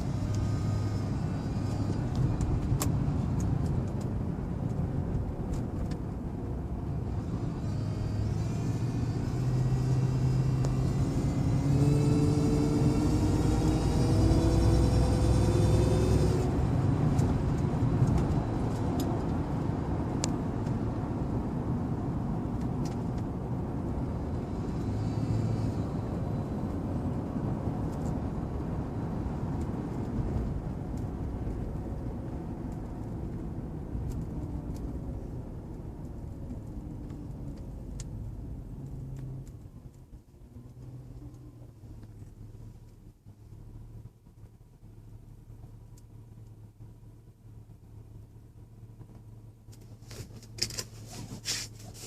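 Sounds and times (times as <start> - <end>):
car road and drivetrain rumble: 0.0 - 52.0.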